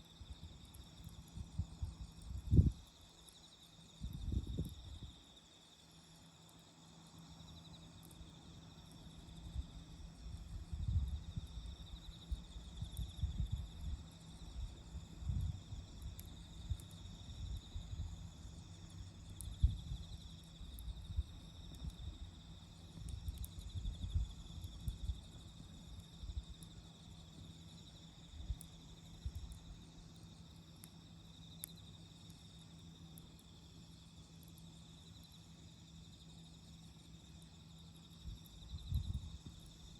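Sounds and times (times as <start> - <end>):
crickets chirring: 0.0 - 39.9
campfire wood crackling: 0.1 - 39.9.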